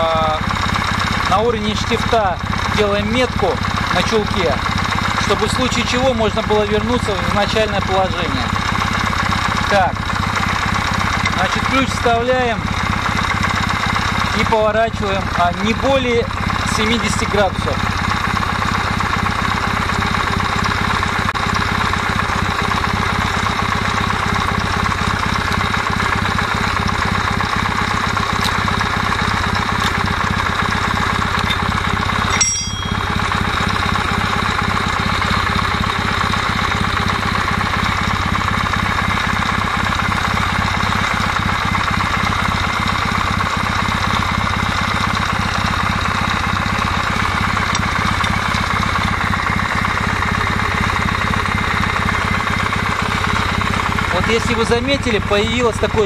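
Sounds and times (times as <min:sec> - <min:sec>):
motorcycle engine idling: 0:00.0 - 0:56.0
rapid knocking from camshaft drive: 0:00.2 - 0:32.3, 0:32.9 - 0:56.0.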